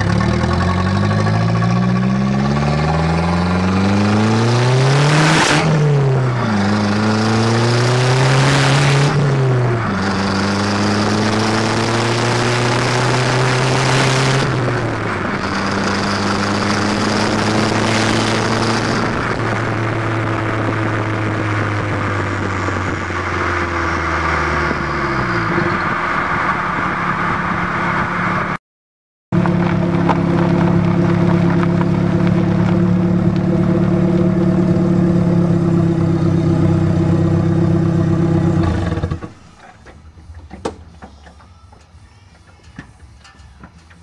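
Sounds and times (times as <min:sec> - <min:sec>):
car exhaust droning: 0:00.0 - 0:28.6, 0:29.4 - 0:41.8
road noise: 0:00.0 - 0:28.6, 0:29.3 - 0:44.0.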